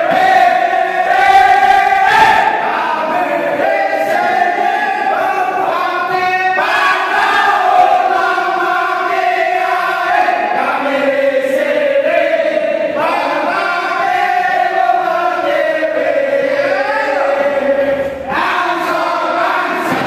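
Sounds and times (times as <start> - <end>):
men singing in unison: 0.0 - 20.0.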